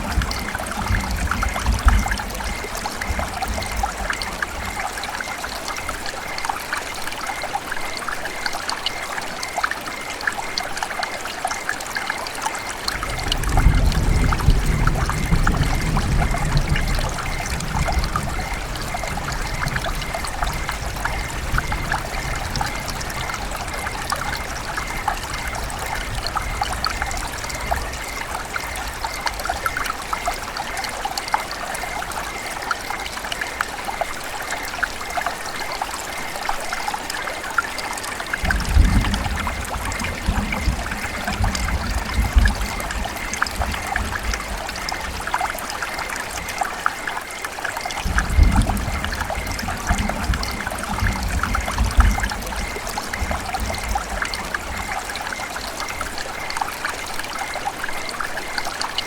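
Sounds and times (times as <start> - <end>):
river water babbling over stones: 0.0 - 59.0.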